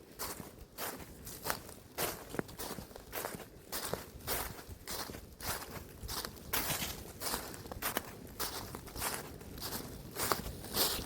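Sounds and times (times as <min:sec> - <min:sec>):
footsteps outdoors: 0:00.0 - 0:11.0.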